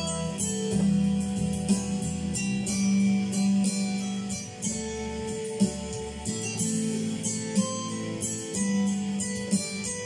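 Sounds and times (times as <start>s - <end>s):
instrumental pop backing music: 0.0s - 10.0s.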